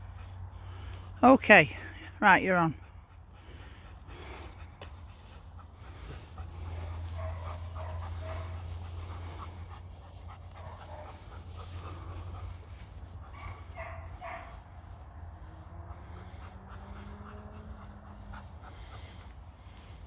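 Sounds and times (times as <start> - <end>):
dog panting: 0.0 - 20.0
steady low rumble: 0.0 - 20.0.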